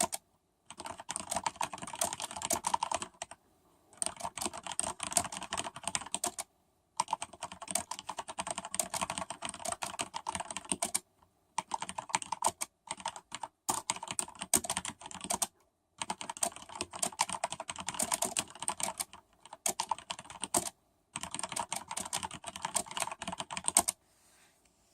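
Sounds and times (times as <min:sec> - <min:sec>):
fast typing on mechanical keyboard: 0:00.0 - 0:03.4, 0:04.0 - 0:11.0, 0:11.6 - 0:24.0.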